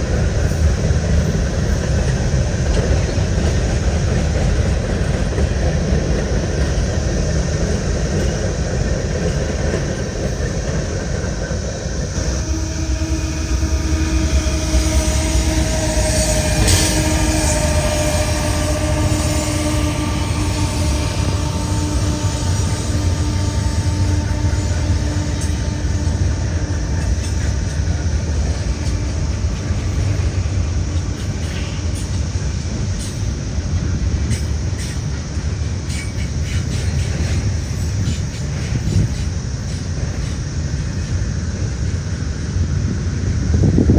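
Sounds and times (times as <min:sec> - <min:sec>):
freight train rumbling by: 0:00.0 - 0:43.9.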